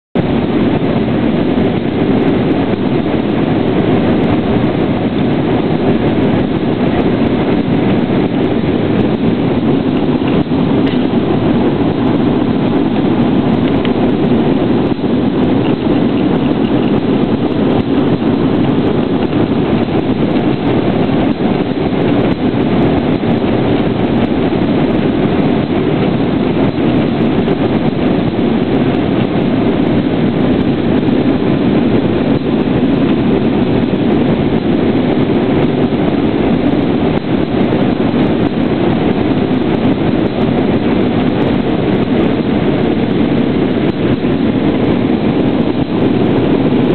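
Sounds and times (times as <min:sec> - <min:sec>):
airplane cabin engine drone: 0:00.1 - 0:46.9.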